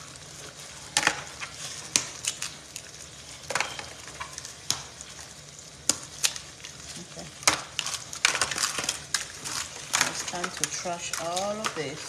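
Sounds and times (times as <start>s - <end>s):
eggs sizzling in a skillet: 0.0s - 12.0s
eggshells cracking: 0.9s - 12.0s.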